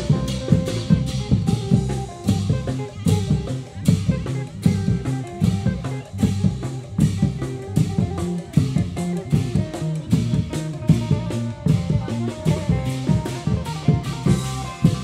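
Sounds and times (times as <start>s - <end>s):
bass line: 0.0s - 15.0s
drum kit beat: 0.0s - 15.0s
plucked string melody: 0.0s - 15.0s.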